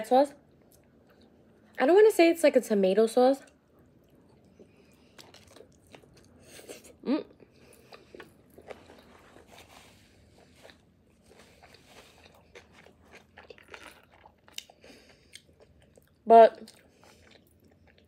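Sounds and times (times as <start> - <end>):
person chewing and crunching: 0.4 - 1.8, 3.4 - 18.0.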